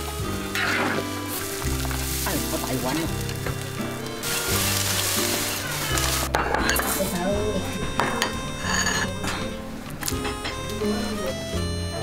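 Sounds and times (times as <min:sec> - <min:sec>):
soup boiling and bubbling: 0:00.0 - 0:10.2.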